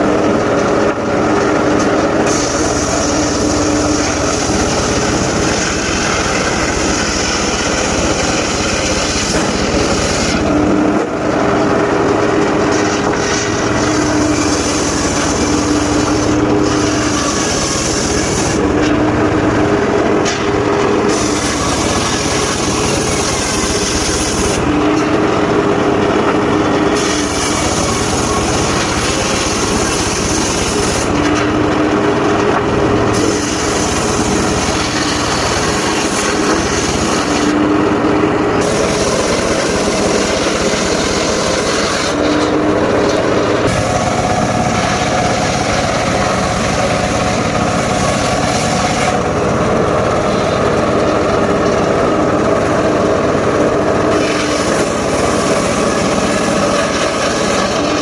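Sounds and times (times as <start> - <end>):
sawmill blade sawing logs: 0.0 - 58.0.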